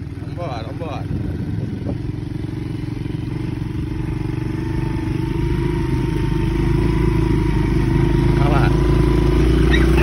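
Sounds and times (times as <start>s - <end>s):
small petrol engine running: 0.0s - 10.0s.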